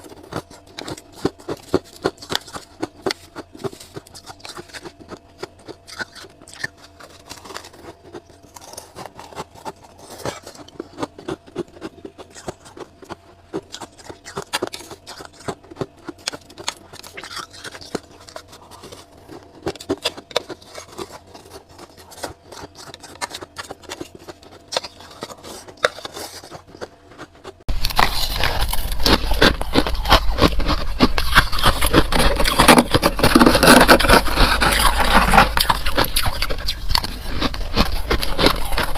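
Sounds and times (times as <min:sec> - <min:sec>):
freezer frost being scraped: 0:00.0 - 0:38.9.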